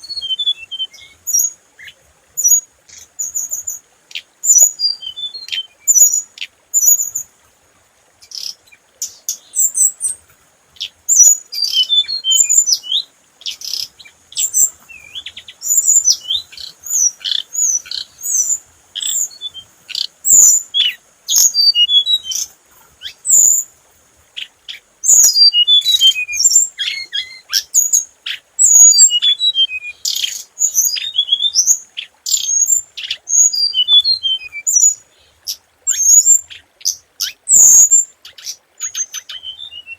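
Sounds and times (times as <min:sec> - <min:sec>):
bird chirping and twittering: 0:00.0 - 0:07.3, 0:08.2 - 0:10.2, 0:10.8 - 0:23.6, 0:24.4 - 0:39.9
faint high hiss: 0:00.0 - 0:39.9.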